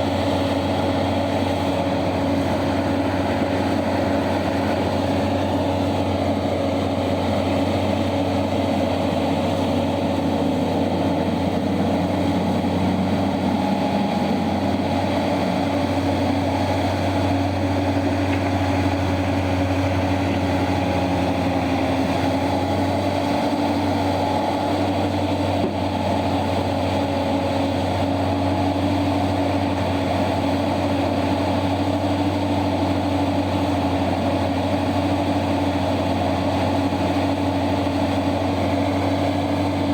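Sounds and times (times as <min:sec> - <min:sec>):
big diesel engine droning: 0:00.0 - 0:39.9.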